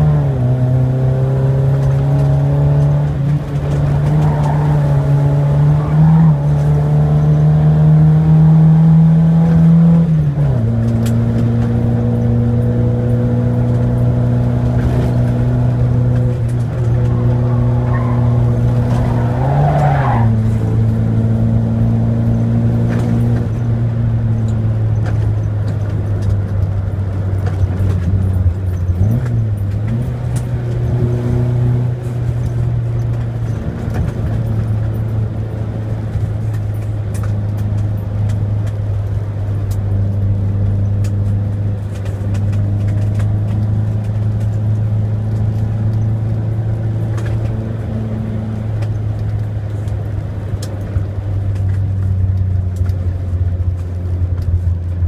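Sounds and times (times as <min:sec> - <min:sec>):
car engine running: 0:09.5 - 0:55.0.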